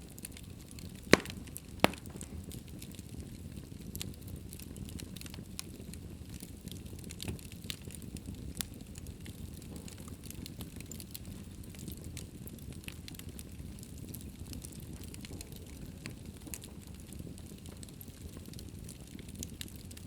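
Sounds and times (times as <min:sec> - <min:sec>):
fire crackling in fireplace: 0:00.0 - 0:20.0
loud fire pops: 0:00.4 - 0:20.0.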